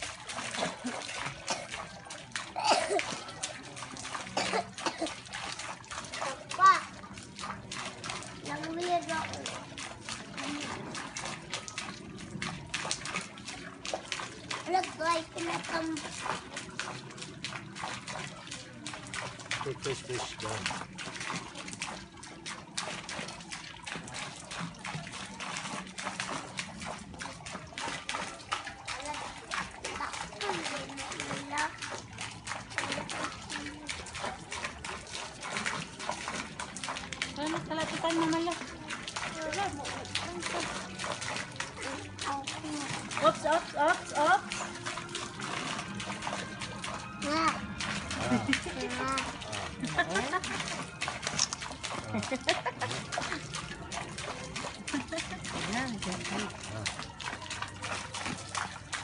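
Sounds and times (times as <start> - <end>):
fish splashing in water: 0.0 - 59.0.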